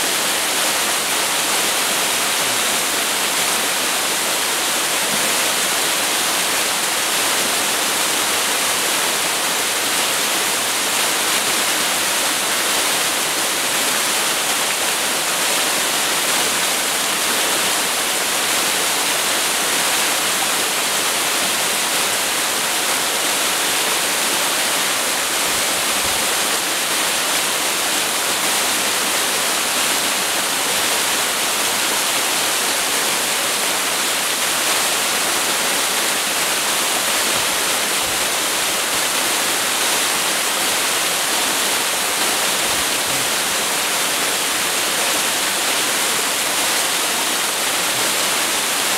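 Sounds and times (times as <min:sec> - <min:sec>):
waterfall splashing onto rocks: 0:00.0 - 0:48.9.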